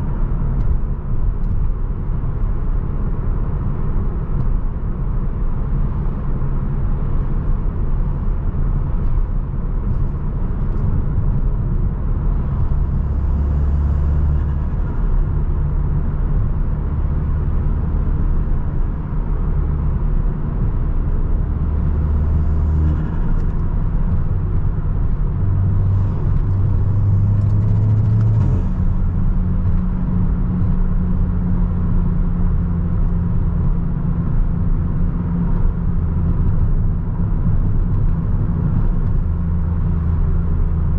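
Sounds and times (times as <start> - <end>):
car engine running: 0.0 - 40.9
road noise rumble: 0.0 - 40.9.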